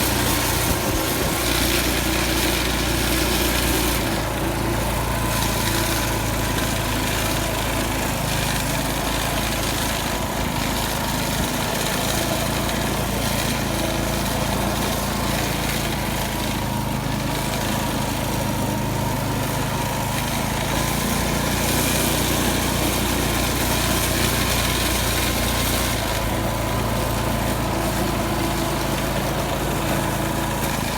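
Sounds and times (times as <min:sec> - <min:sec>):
snowblower engine running: 0:00.0 - 0:30.9.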